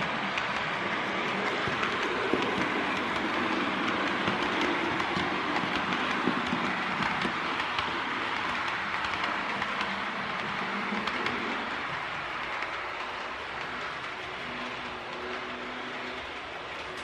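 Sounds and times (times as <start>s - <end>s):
model train rolling rattle: 0.0s - 17.0s.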